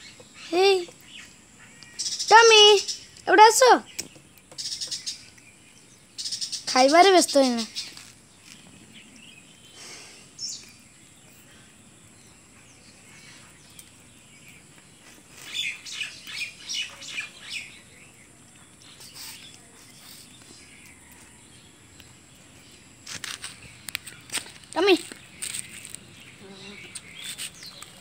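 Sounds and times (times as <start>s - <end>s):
birds chirping: 0.0s - 28.0s
quiet outdoor background noise: 0.0s - 28.0s.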